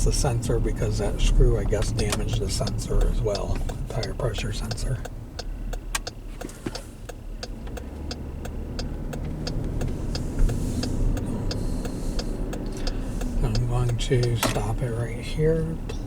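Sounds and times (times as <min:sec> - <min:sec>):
engine and road rumble: 0:00.0 - 0:16.0
light ticks: 0:00.2 - 0:15.1.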